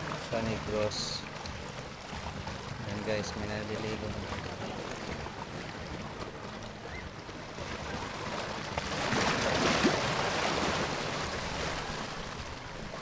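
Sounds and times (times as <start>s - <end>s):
sea waves splashing on boulders: 0.0s - 13.0s.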